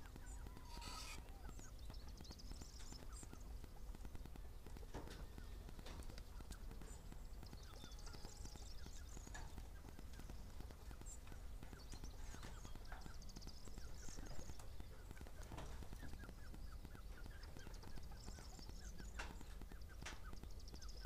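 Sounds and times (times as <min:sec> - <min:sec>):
faint clicks and knocks: 0:00.0 - 0:21.0.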